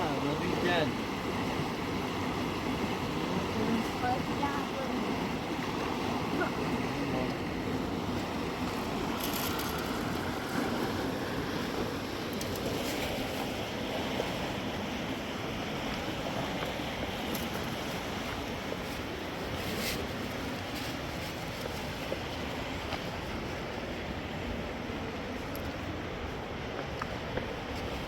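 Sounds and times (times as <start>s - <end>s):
river flowing: 0.0s - 28.0s.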